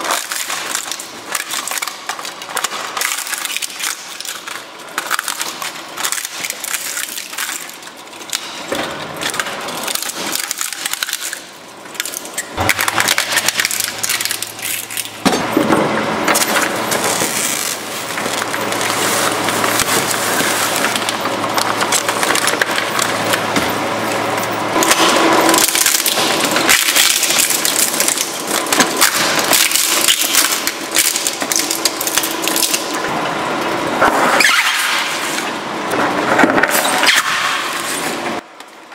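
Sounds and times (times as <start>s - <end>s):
shredder crunching plastic: 0.0s - 38.9s.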